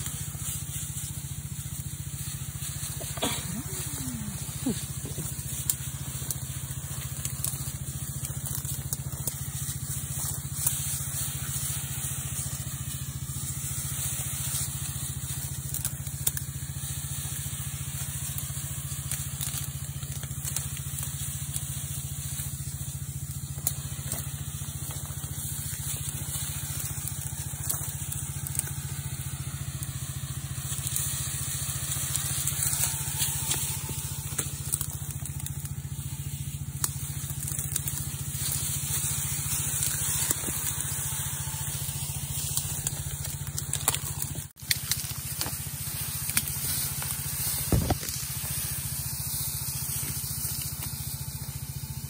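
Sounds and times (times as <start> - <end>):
small petrol engine humming: 0.0 - 52.0
spray gun hissing: 0.0 - 52.0.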